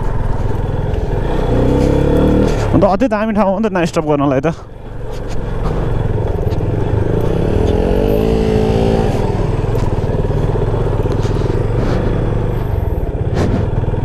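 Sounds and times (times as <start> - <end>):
engine revving: 0.0 - 2.8, 4.8 - 14.0
motorcycle engines running: 0.0 - 14.0.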